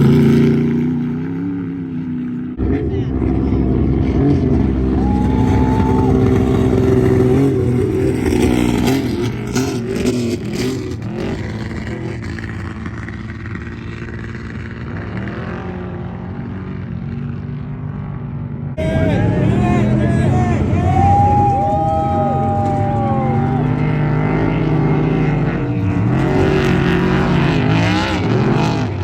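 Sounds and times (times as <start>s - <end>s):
race vehicle engine revving: 0.0s - 16.3s, 18.8s - 29.0s.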